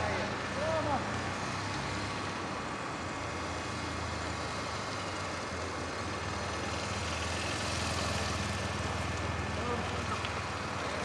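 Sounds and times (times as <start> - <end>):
outdoor noise haze: 0.0 - 11.0.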